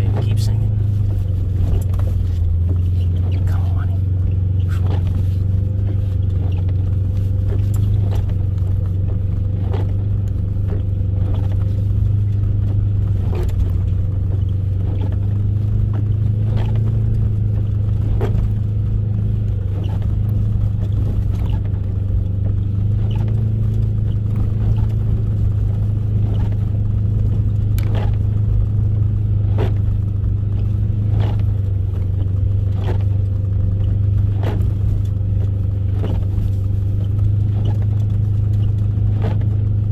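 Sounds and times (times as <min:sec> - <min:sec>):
vehicle engine and road drone: 0:00.0 - 0:39.9.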